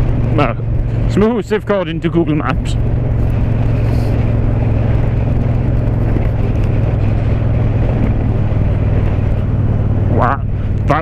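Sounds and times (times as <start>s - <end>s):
motorcycle engine cruising: 0.0s - 11.0s
road noise: 0.0s - 11.0s
wind noise: 0.0s - 11.0s.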